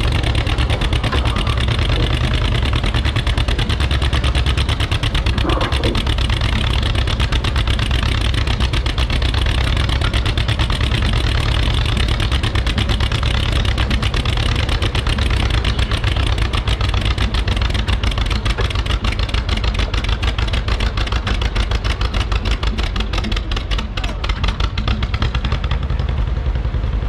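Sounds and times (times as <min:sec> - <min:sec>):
tractor engine idling: 0:00.0 - 0:27.0.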